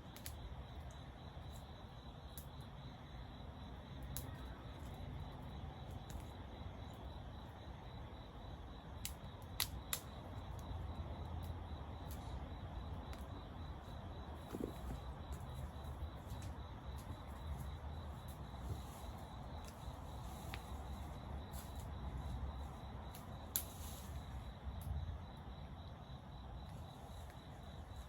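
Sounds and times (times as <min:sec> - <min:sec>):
fire crackling pops: 0:00.0 - 0:03.2, 0:03.8 - 0:28.0
campfire hissing: 0:00.0 - 0:28.0.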